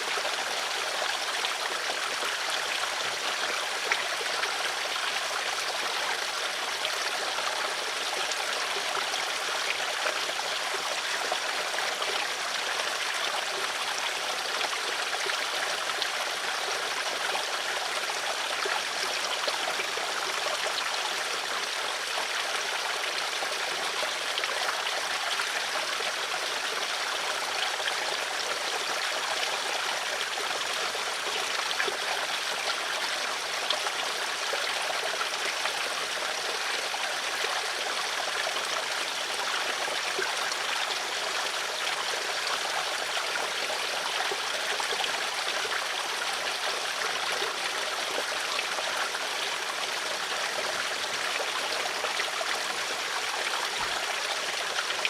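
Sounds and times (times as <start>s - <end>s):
stream trickling and gurgling: 0.0s - 55.0s.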